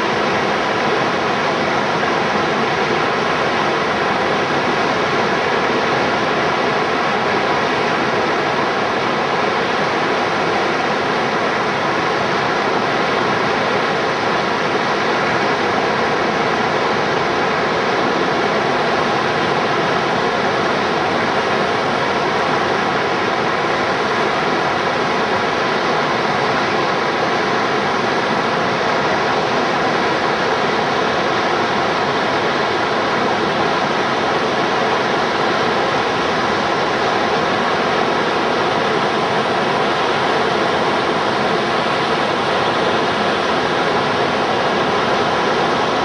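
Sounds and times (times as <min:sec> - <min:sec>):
river water rushing over rapids: 0:00.0 - 0:46.0.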